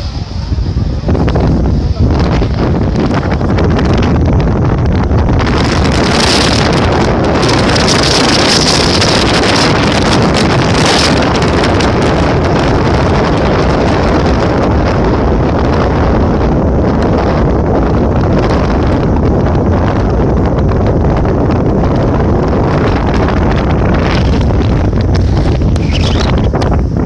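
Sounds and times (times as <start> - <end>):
road and vehicle noise: 0.0 - 19.1, 21.6 - 27.0
wind rushing over microphone: 0.0 - 27.0.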